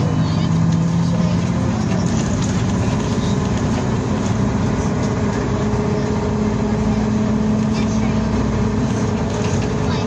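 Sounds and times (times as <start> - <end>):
tyre and road noise: 0.0 - 10.0.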